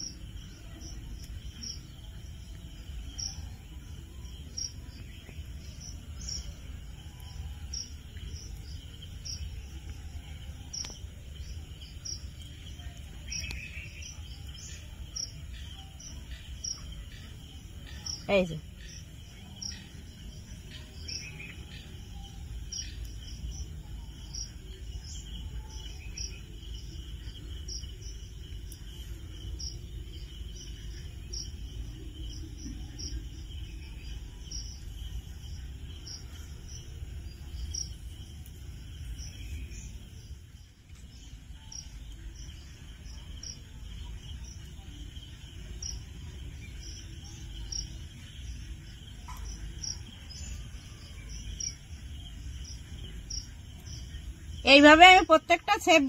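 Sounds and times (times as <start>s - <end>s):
crickets chirping: 0.0s - 56.0s
high insect drone: 0.0s - 56.0s.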